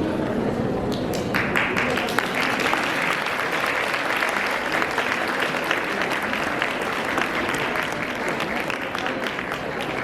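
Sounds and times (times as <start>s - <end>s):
audience applauding: 1.1s - 10.0s.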